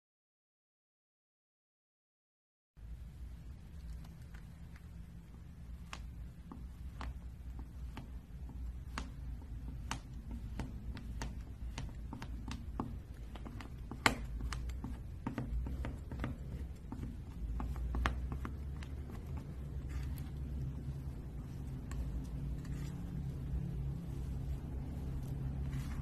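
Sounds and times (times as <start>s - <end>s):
low background hum: 2.8s - 26.0s
palette knife spreading thick paint: 4.8s - 26.0s.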